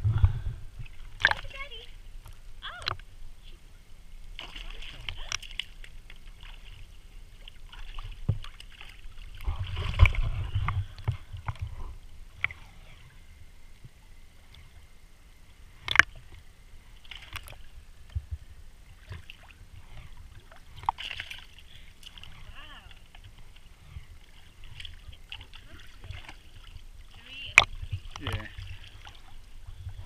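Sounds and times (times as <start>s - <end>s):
sea water sloshing: 0.0s - 30.0s.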